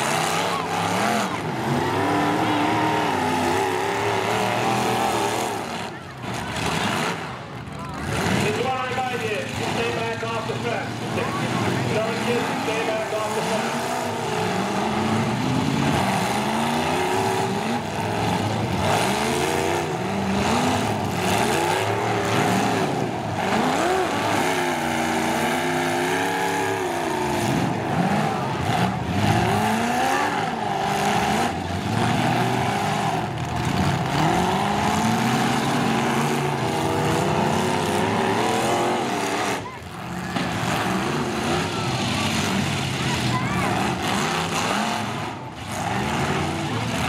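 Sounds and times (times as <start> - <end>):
truck engines revving: 0.0 - 47.0.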